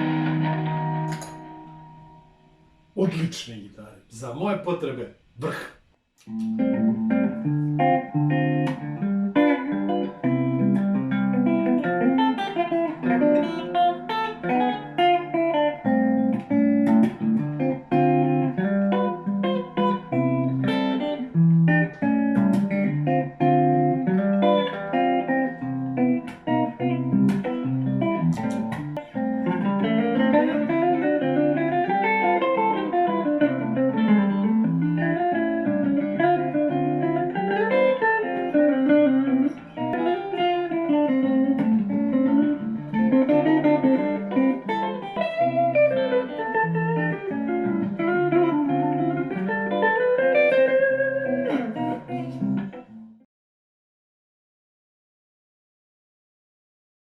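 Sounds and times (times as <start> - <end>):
electric guitar through amplifier: 0.0 - 3.3, 6.2 - 53.2.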